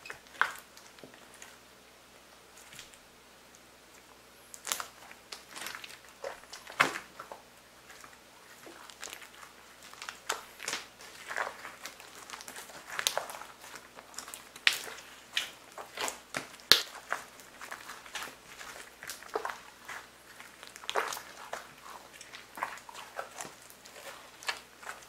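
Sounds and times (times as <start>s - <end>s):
slime squishing and popping: 4.5s - 25.0s.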